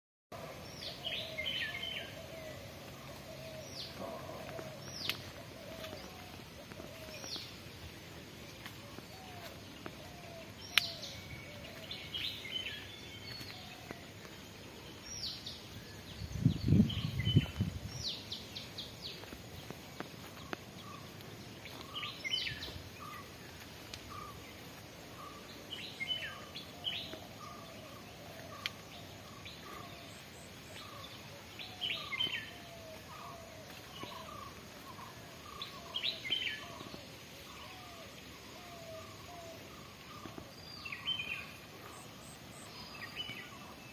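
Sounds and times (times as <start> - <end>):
birds chirping: 0.4 - 43.9
low repeated bird calls: 0.4 - 43.9.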